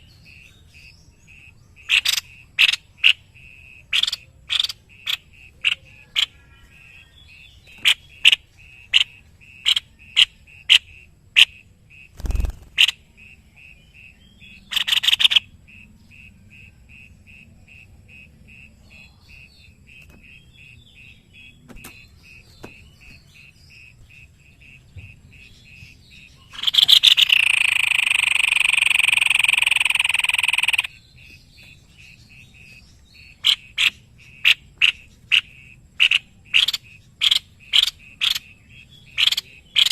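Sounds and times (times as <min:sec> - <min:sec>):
babbler calling: 0:00.0 - 0:39.9
loud bird trill: 0:00.0 - 0:39.9.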